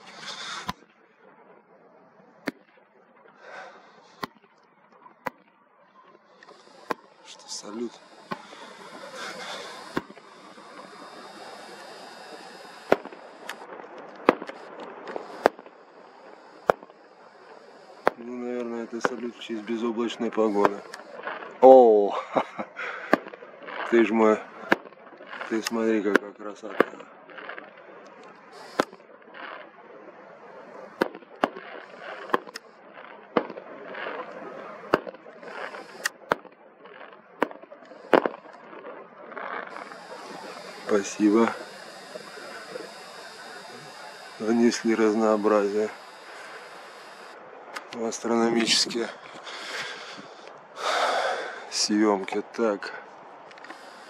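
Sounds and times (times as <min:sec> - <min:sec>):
fireworks bangs: 0:00.0 - 0:54.0
steady background hiss: 0:00.0 - 0:54.0.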